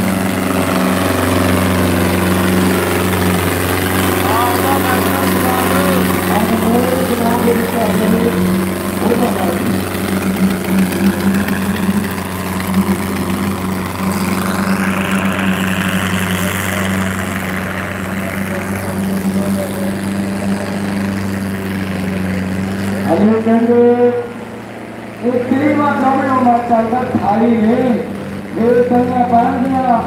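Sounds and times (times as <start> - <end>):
tractor diesel engines under load: 0.0 - 30.0.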